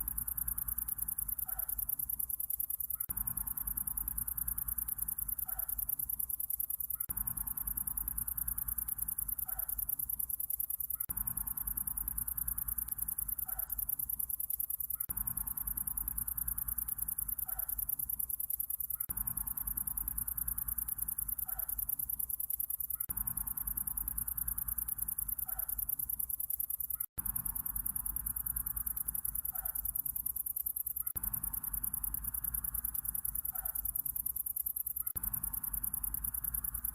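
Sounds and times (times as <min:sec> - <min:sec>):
high rapid insect trill: 0:00.0 - 0:36.9.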